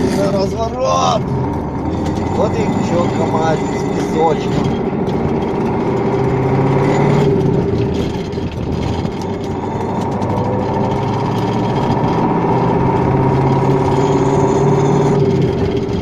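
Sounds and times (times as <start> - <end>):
truck diesel engine from cab: 0.0 - 16.0.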